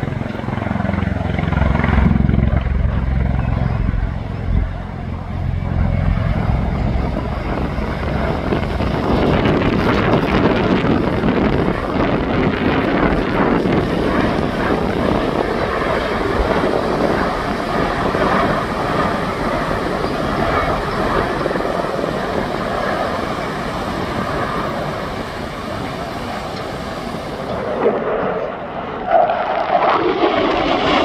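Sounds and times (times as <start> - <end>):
aircraft rotors thrumming overhead: 0.0 - 31.0.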